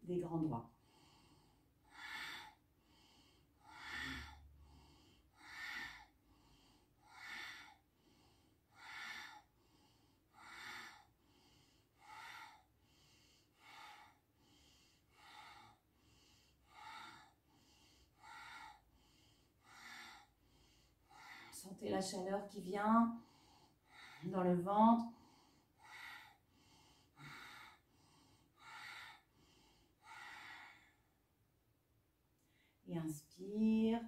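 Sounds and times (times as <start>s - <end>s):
forceful breathing: 0.7s - 21.7s, 23.0s - 31.2s.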